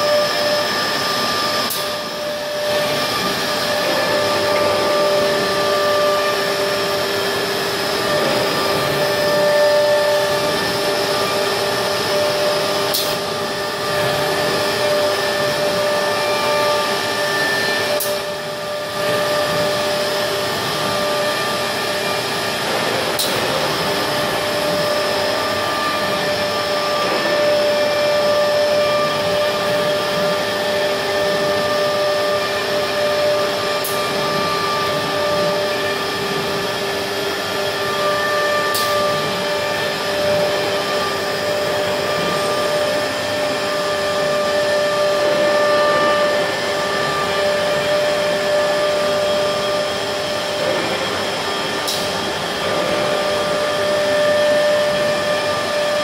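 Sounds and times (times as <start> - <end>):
cnc router whine cutting board: 0.0 - 56.0.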